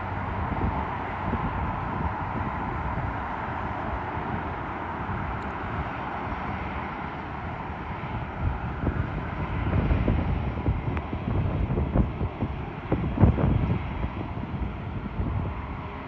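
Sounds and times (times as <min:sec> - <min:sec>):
jet airliner engine noise: 0:00.0 - 0:16.0
wind buffeting microphone: 0:00.0 - 0:16.0.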